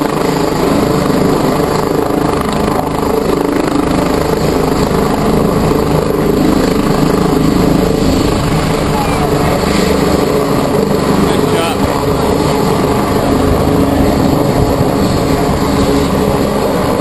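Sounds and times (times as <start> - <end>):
helicopter rotor beat: 0.0 - 17.0.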